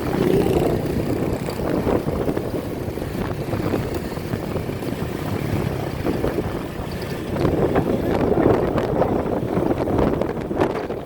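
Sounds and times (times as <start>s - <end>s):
engine humming: 0.0s - 11.0s
water noise: 0.0s - 11.0s
wind: 0.0s - 11.0s.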